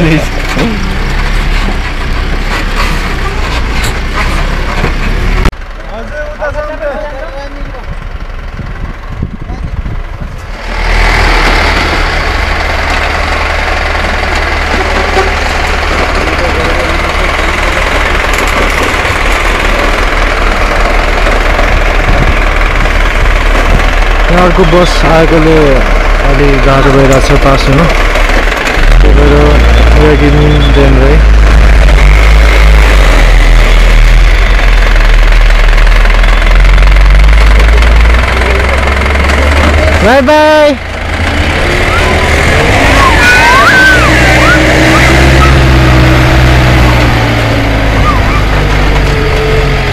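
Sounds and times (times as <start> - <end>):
rushing noise of moving vehicle: 0.0 - 49.9
vehicle engine humming: 0.0 - 49.9.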